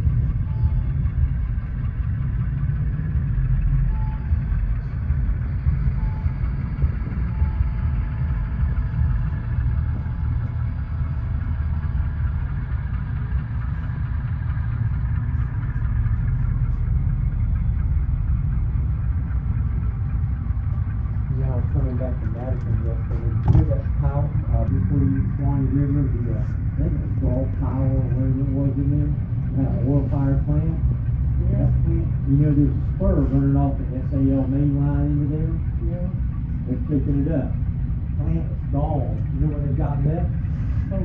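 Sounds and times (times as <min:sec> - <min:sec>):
faint steady tones: 0:00.0 - 0:41.0
low rumble: 0:00.0 - 0:41.0.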